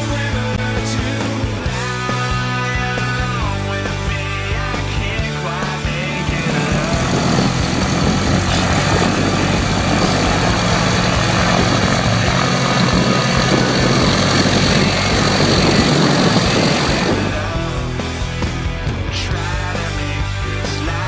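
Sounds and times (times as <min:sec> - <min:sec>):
airplane engine and propeller: 0:00.0 - 0:20.7.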